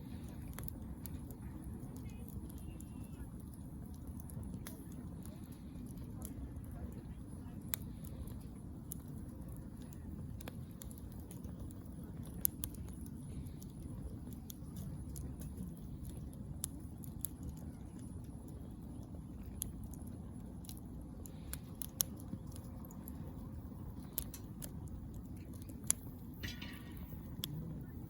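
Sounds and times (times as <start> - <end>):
low rumble: 0.0 - 28.0
wood fire crackling: 0.0 - 28.0.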